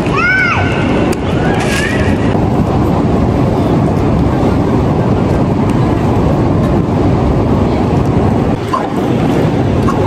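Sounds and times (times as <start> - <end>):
wind buffeting microphone: 0.7 - 10.0.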